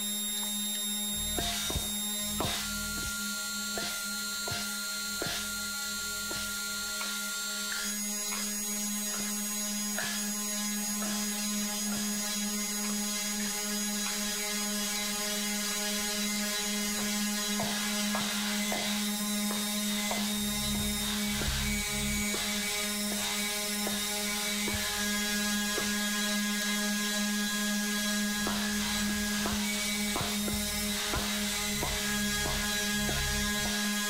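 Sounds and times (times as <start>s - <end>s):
low drone: 0.0s - 34.0s.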